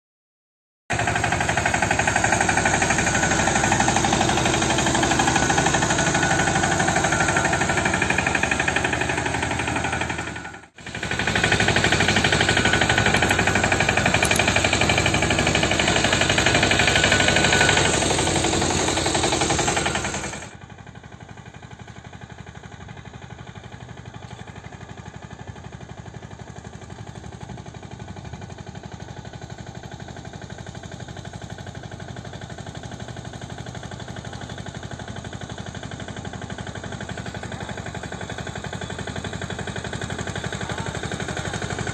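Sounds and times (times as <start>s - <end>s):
tractor engine knocking: 0.9s - 41.9s.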